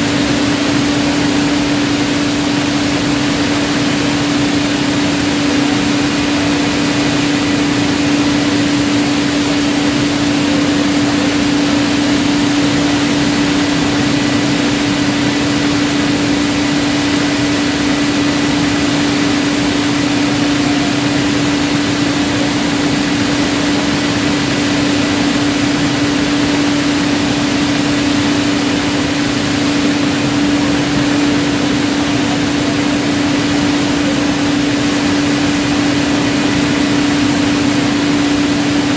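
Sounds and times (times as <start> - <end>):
bottling line machinery: 0.0 - 38.9
constant hum: 0.0 - 38.9.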